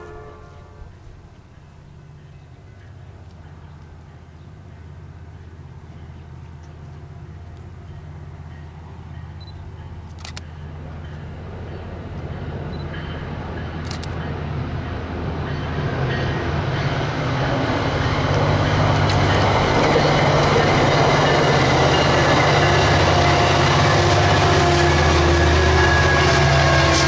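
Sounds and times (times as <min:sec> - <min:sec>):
diesel locomotive drone: 0:00.0 - 0:27.0
train wheels rumbling on rails: 0:00.0 - 0:27.0.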